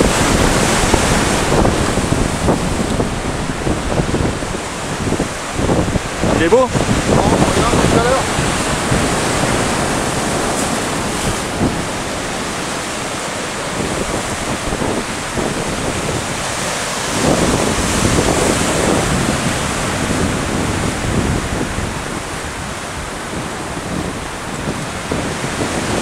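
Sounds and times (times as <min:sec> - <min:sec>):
surf washing over rocks: 0:00.0 - 0:26.0
wind buffeting microphone: 0:00.0 - 0:26.0.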